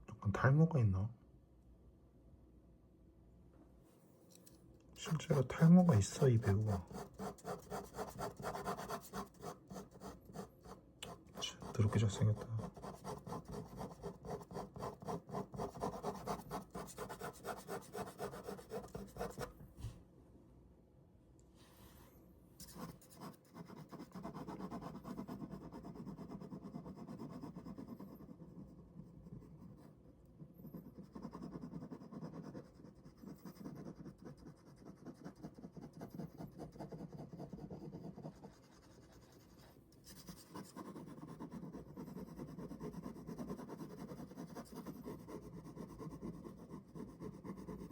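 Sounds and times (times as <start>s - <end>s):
ballpoint pen shading on paper: 5.0s - 19.5s, 22.6s - 47.9s.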